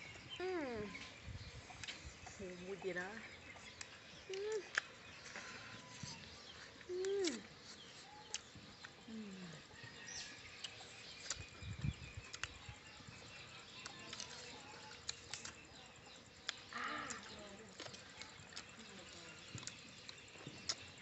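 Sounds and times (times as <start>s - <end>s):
chewing and smacking: 3.5s - 21.0s.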